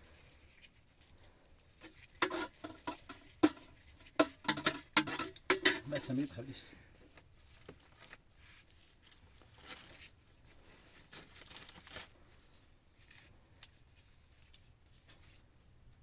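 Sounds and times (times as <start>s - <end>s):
faint rustles and ticks: 0.0s - 16.0s.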